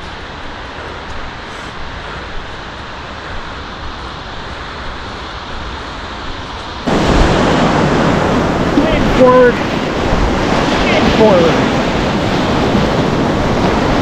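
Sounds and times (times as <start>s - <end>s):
river rapid rushing: 0.0s - 14.0s
wind buffeting microphone: 0.0s - 14.0s.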